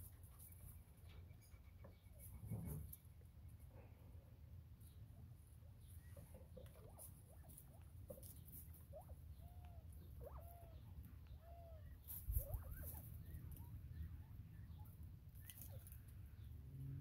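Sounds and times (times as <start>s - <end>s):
quail peeping and chirping: 0.0s - 17.0s.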